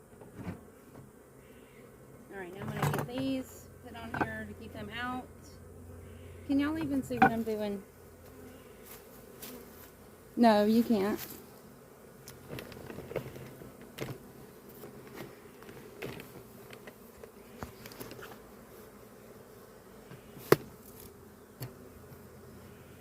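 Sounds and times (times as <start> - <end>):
swarm of bees buzzing: 0.0 - 23.0.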